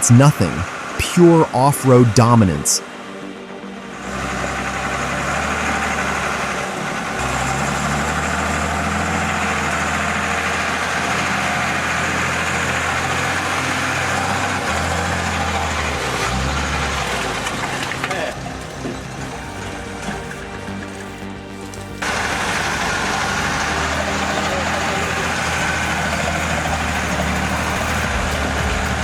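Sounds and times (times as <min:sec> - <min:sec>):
truck engine running under load: 0:00.1 - 0:29.0.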